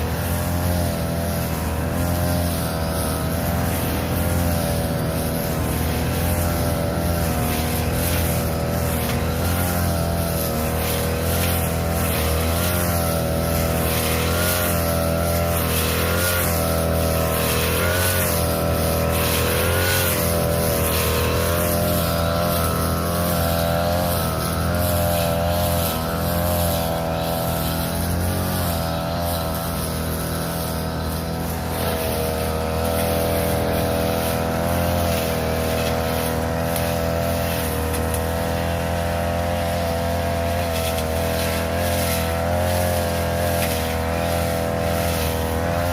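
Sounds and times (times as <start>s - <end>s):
small petrol engine running: 0.0s - 45.9s
swishing hiss of grass cutting: 0.0s - 45.9s.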